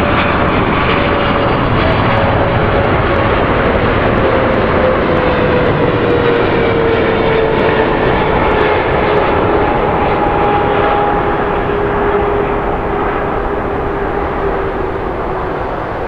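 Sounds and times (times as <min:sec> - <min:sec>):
jet engines roaring with whine: 0:00.0 - 0:16.0.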